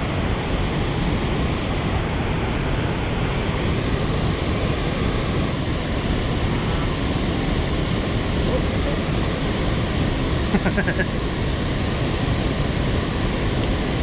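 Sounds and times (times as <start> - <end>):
water roaring through a dam: 0.0 - 14.0.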